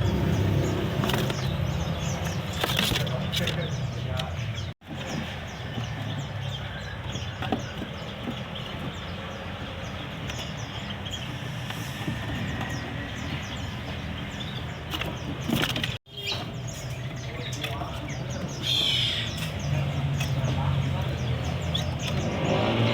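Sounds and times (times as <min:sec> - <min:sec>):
songbirds chirping: 0:00.0 - 0:22.9.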